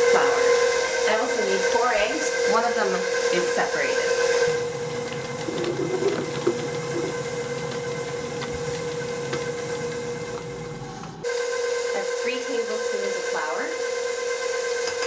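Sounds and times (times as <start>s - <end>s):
electric mixer motor humming: 0.0s - 15.0s.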